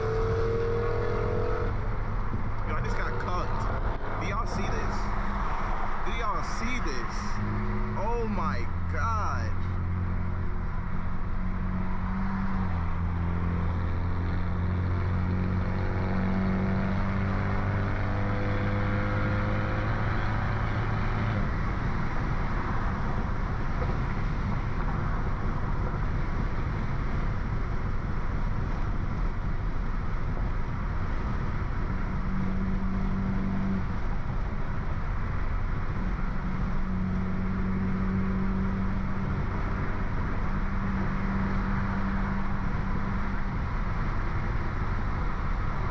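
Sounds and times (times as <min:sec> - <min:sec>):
car engine cruising: 0:00.0 - 0:45.9.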